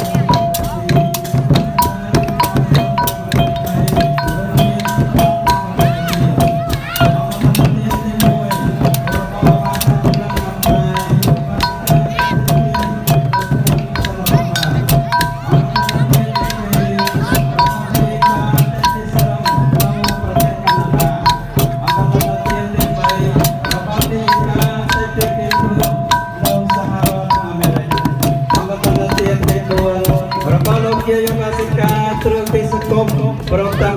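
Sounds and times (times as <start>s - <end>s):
hand cymbals ringing: 0.0s - 33.7s
hand drums beating: 0.0s - 33.9s.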